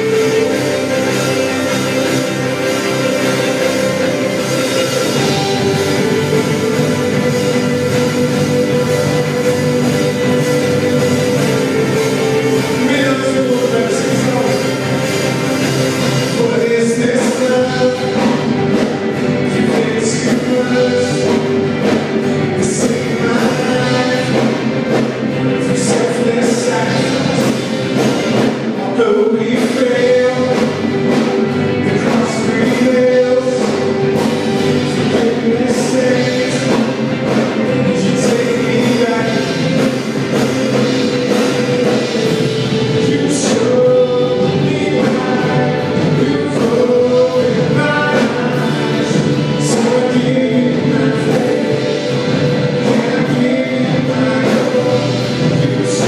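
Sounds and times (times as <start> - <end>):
live worship band playing: 0.0 - 56.0
sung vocals: 0.0 - 56.0.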